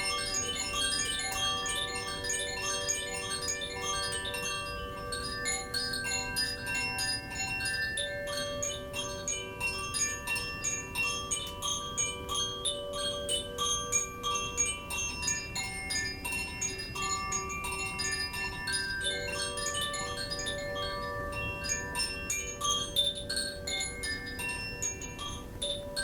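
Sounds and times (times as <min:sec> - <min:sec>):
chimes tinkling: 0:00.0 - 0:26.0.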